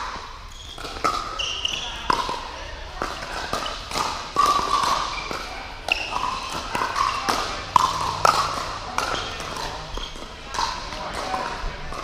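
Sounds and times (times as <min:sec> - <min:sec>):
paddles striking plastic ball: 0:00.8 - 0:12.0.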